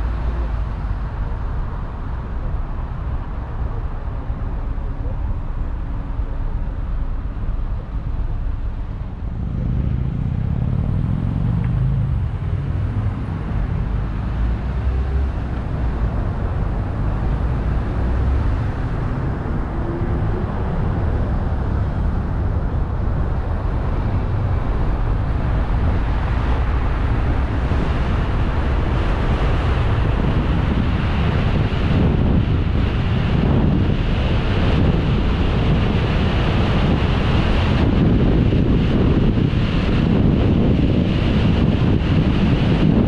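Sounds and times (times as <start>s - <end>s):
car engine rumble: 0.0s - 43.0s
tyre noise on paved road: 0.0s - 43.0s.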